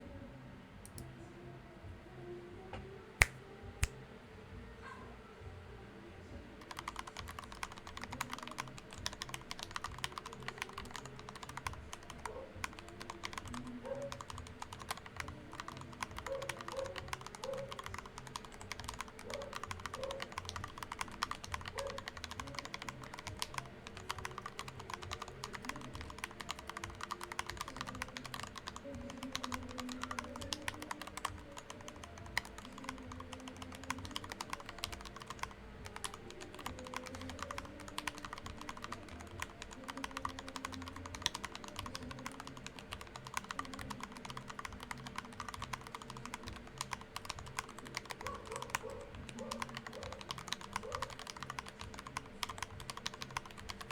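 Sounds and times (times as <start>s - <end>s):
faint pitched background sounds: 0.0s - 53.9s
keyboard typing clacks: 6.6s - 53.9s.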